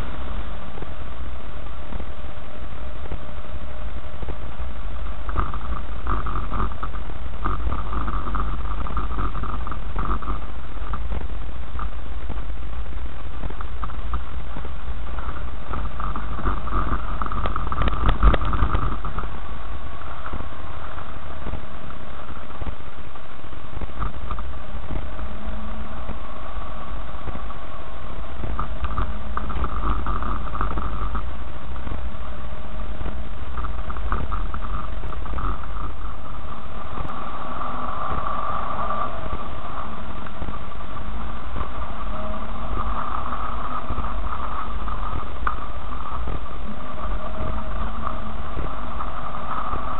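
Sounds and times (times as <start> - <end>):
car engine running: 0.0 - 49.9
tyres on dirt track: 0.0 - 49.9.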